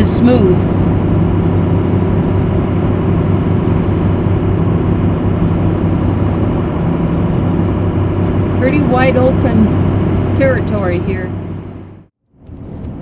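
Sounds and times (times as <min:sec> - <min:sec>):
engine drone and road noise: 0:00.0 - 0:13.0.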